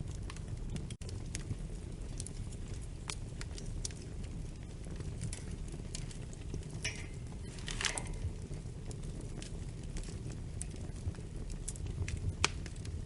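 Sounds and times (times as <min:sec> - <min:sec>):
fire pops: 0:00.0 - 0:13.0
wood fire burning: 0:00.0 - 0:13.0.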